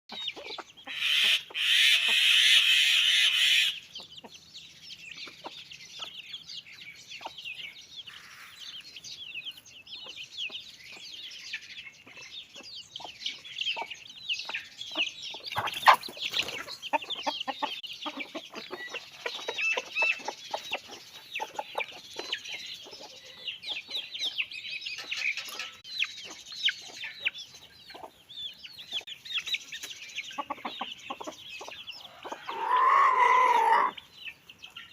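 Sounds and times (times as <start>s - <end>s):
chickens clucking and calling: 0.1s - 34.9s.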